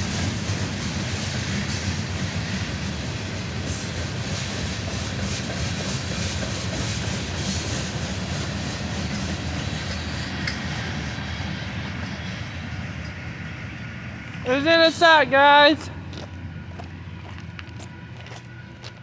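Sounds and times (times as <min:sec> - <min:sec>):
freight train rumbling: 0:00.0 - 0:19.0.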